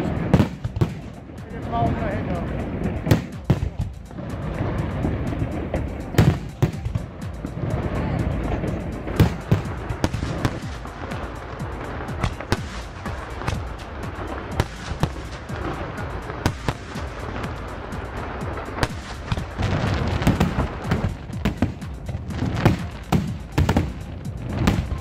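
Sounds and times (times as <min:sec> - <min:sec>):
deep firework booms: 0:00.0 - 0:25.0
fireworks bangs and cracks: 0:00.0 - 0:25.0
music: 0:00.0 - 0:25.0.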